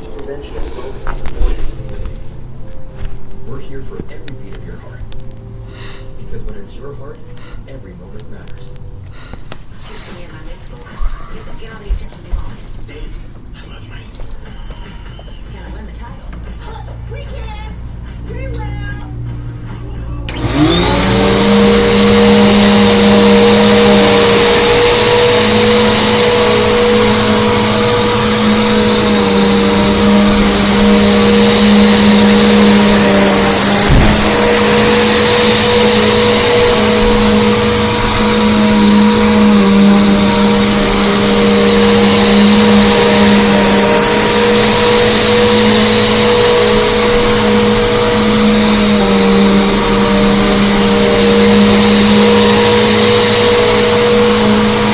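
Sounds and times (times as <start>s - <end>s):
vacuum cleaner running: 0.0s - 2.4s, 3.0s - 12.5s, 20.2s - 54.9s.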